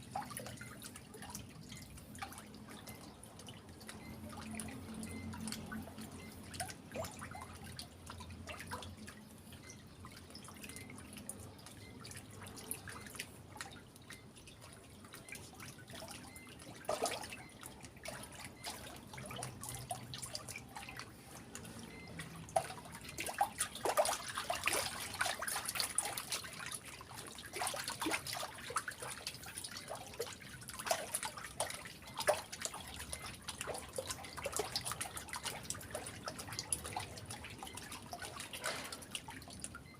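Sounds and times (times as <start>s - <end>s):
water dripping and splashing: 0.0s - 39.9s.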